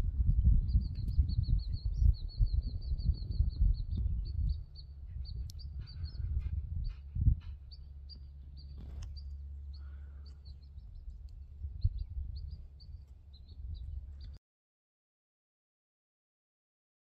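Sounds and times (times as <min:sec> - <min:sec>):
low rumble of background noise: 0:00.0 - 0:14.4
small birds chirping: 0:00.2 - 0:14.4.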